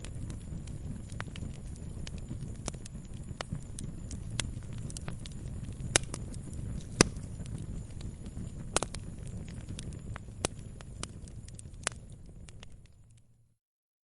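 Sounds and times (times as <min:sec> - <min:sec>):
wood fire crackling: 0:00.0 - 0:13.5
low rumble of flames: 0:00.0 - 0:13.6.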